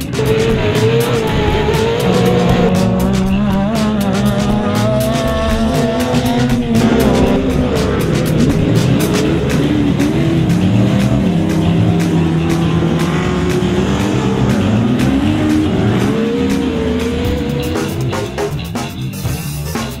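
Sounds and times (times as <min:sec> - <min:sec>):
music with drum beats: 0:00.0 - 0:20.0
truck engine revving: 0:00.0 - 0:20.0.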